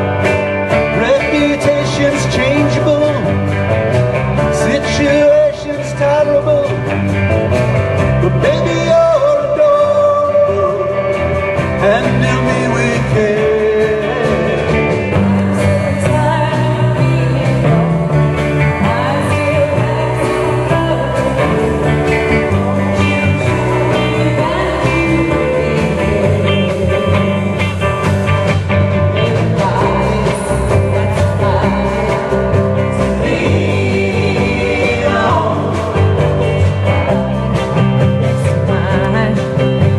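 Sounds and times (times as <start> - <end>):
live rock band: 0.0 - 39.9
person singing: 0.7 - 3.5, 4.4 - 6.9, 8.2 - 39.9.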